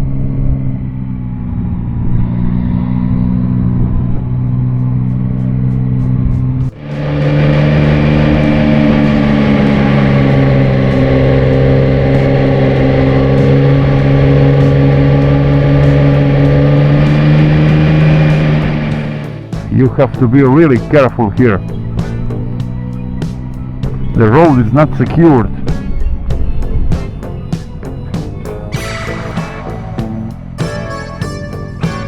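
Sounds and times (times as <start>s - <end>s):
motorcycle engine pulling uphill: 0.0s - 32.0s.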